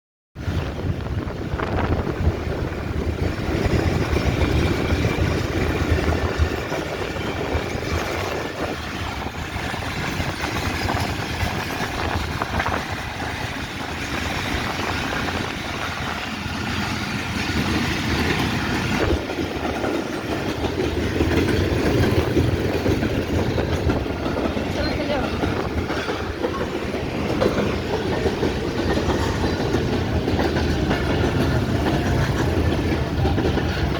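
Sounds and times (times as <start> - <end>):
train passing rumble: 0.4 - 33.9.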